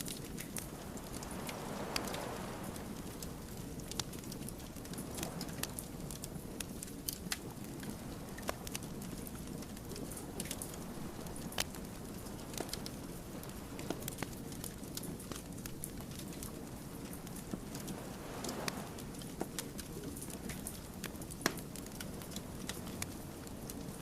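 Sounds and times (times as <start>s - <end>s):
logs crackling and popping: 0.0s - 24.0s
low rush of flame: 0.0s - 24.0s.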